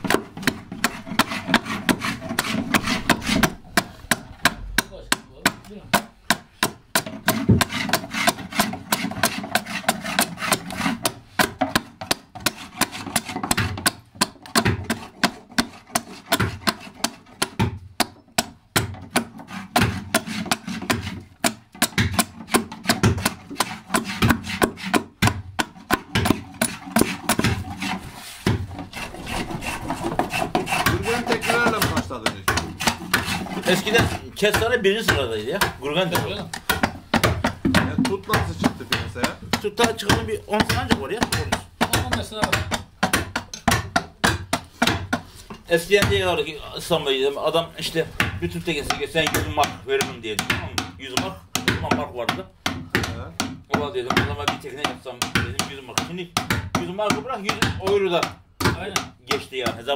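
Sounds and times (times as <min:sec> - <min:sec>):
adze chopping wood: 0:00.0 - 0:46.5, 0:47.8 - 0:59.9.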